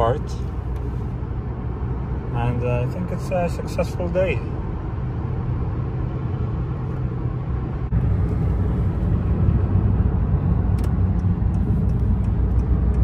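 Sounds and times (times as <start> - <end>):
car cabin road noise: 0.0 - 13.0.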